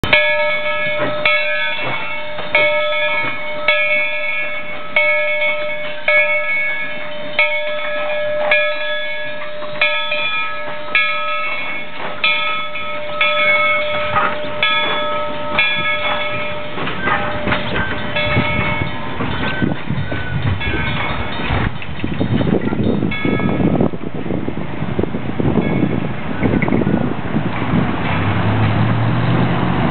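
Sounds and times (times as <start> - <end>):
locomotive bell ringing: 0.0 - 28.7
low rumble of moving train: 0.0 - 29.9.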